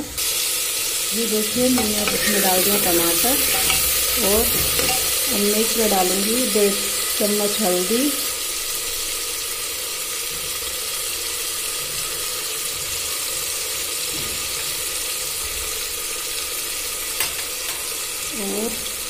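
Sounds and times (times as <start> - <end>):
onions frying in oil: 0.0 - 19.0.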